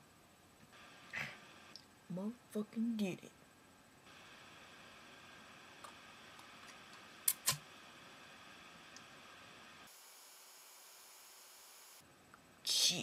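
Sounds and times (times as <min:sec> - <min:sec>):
faint microphone hiss: 0:00.0 - 0:09.9, 0:12.0 - 0:13.0.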